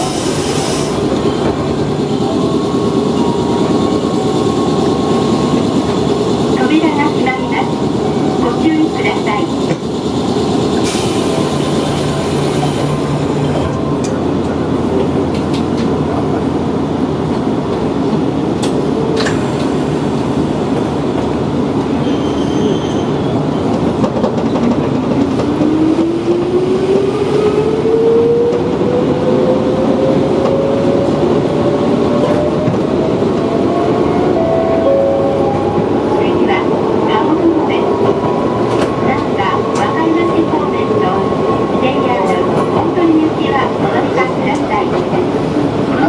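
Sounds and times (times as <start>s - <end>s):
train cab rumble: 0.0s - 46.0s.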